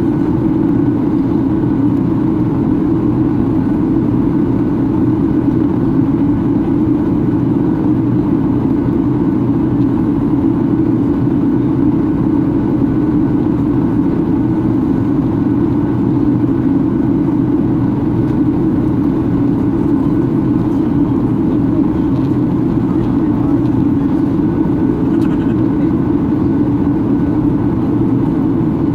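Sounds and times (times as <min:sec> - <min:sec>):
airflow over fuselage: 0:00.0 - 0:28.9
jet engine hum in cabin: 0:00.0 - 0:28.9.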